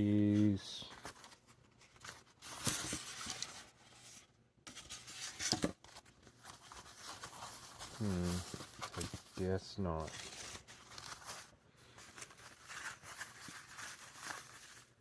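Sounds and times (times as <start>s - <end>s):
box and packaging rustling: 0.0s - 15.0s.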